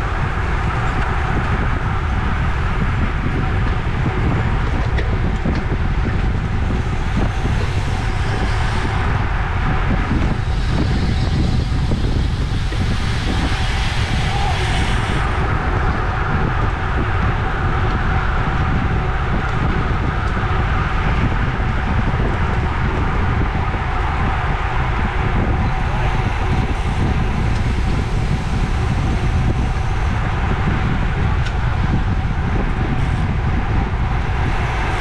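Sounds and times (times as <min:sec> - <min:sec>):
bike tyre and road noise: 0:00.0 - 0:35.0
wind buffeting microphone: 0:00.0 - 0:35.0.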